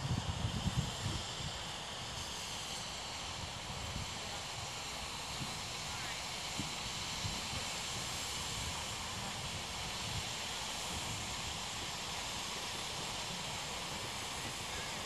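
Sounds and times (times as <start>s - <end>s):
steam hissing from locomotive boiler: 0.0s - 15.0s.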